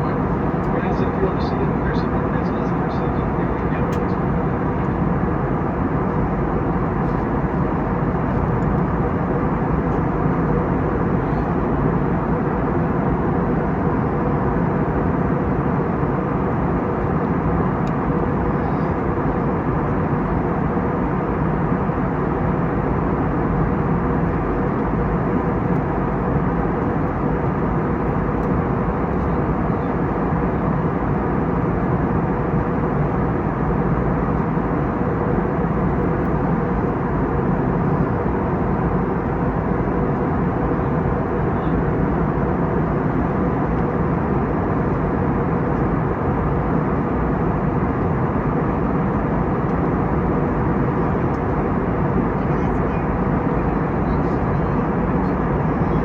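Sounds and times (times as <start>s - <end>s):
aircraft cabin engine and airflow noise: 0.0s - 56.0s.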